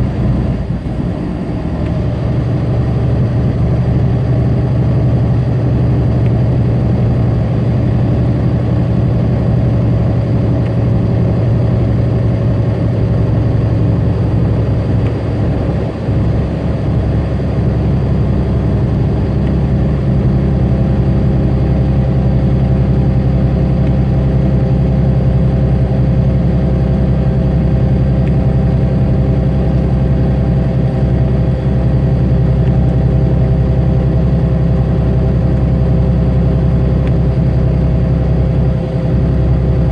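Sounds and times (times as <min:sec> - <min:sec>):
diesel engine drone: 0:00.0 - 0:39.9
road noise: 0:00.0 - 0:39.9.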